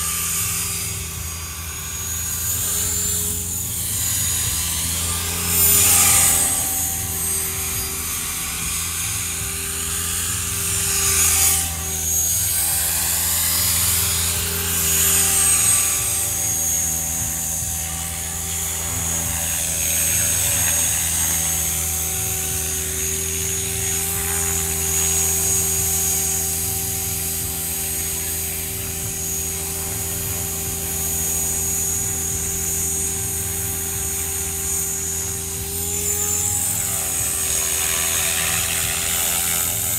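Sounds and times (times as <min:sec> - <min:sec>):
rc helicopter buzzing: 0:00.0 - 0:39.9.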